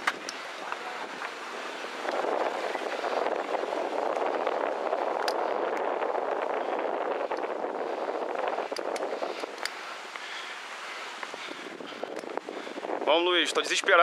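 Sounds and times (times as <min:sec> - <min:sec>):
wind gusting across microphone: 0:00.0 - 0:14.0.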